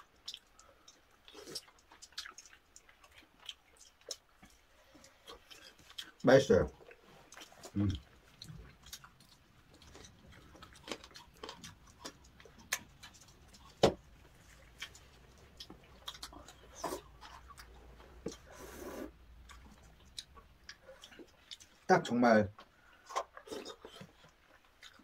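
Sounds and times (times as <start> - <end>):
quiet chewing: 0.0 - 25.0.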